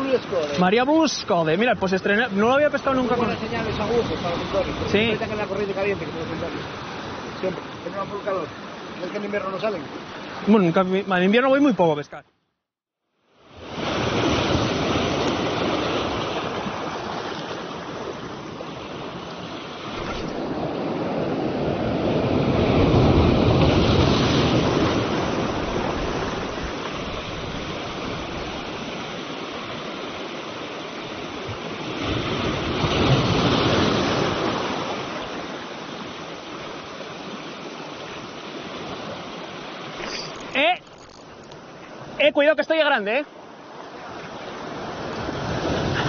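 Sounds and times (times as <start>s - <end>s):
sea surf breaking on boulders: 0.0s - 12.0s, 13.4s - 46.0s.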